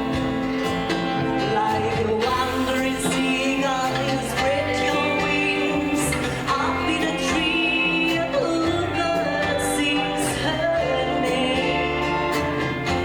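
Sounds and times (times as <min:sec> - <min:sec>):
live rockabilly band playing: 0:00.0 - 0:13.0
person singing: 0:00.0 - 0:13.0.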